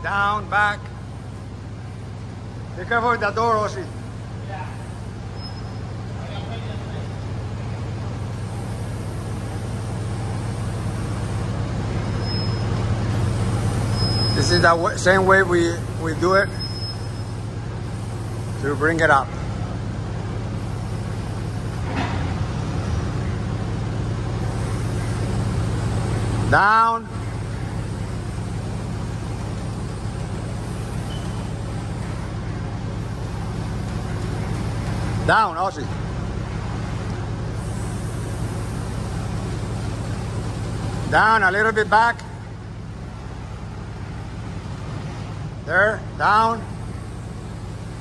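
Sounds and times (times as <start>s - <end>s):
forklift engine humming: 0.0s - 48.0s.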